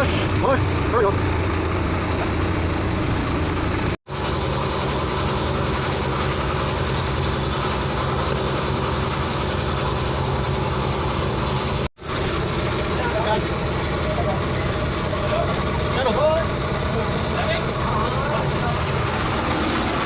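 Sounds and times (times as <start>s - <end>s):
low mechanical motor hum: 0.0s - 20.0s.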